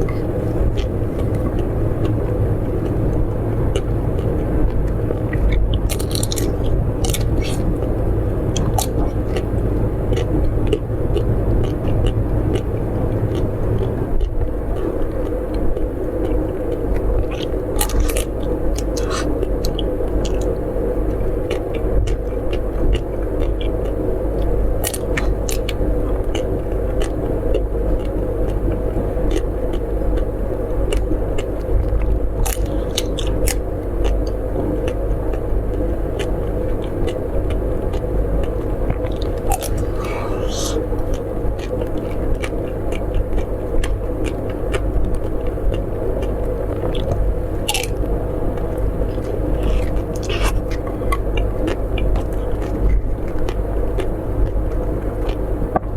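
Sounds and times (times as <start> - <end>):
biting and chewing food: 0.0 - 55.9
sharp crunchy clicks: 0.0 - 55.9
steady low rumble: 0.0 - 55.9.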